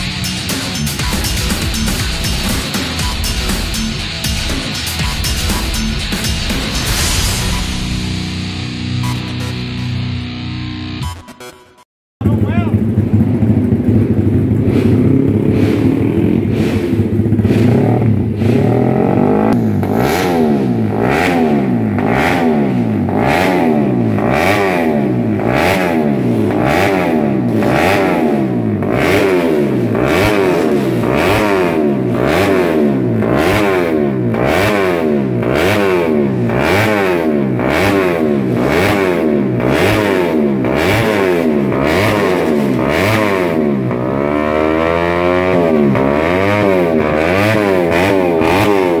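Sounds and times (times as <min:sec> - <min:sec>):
motorcycle engine revving: 0:00.0 - 0:11.0, 0:12.2 - 0:49.0.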